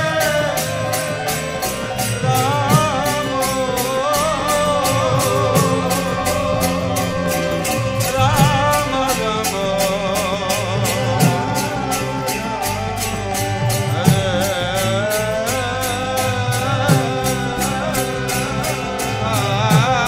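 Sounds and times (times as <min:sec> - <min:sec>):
hand cymbals struck: 0:00.0 - 0:20.0
person singing a chant: 0:00.0 - 0:20.0
drum strokes: 0:00.5 - 0:20.0.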